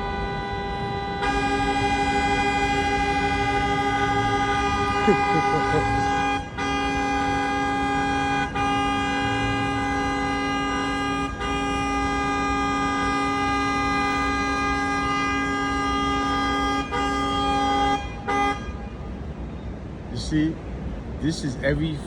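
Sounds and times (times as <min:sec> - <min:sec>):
vehicle horn blasts: 0:00.0 - 0:19.1
street traffic: 0:00.0 - 0:22.0.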